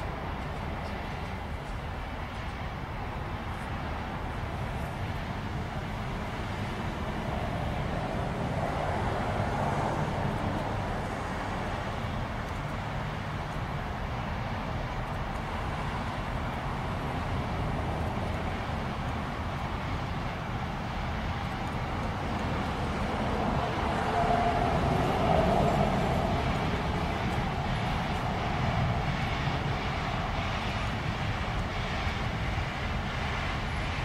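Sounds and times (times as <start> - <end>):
steam locomotive rumbling past: 0.0 - 34.0.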